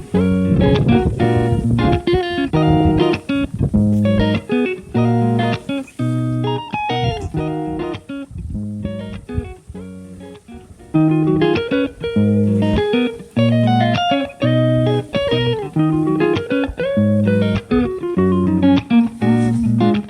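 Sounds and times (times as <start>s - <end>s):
plucked guitar music: 0.0s - 20.0s.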